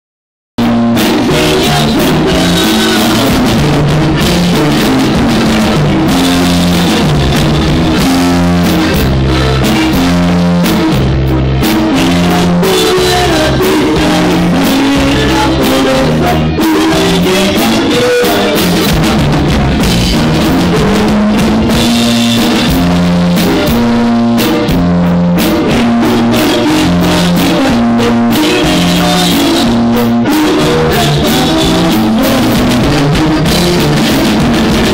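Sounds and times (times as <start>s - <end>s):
band playing with drums bass guitar: 0.6s - 34.9s.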